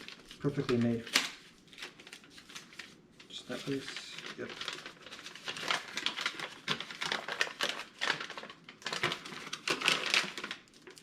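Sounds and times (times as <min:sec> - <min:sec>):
packaging crackling and rustling: 0:00.0 - 0:11.0.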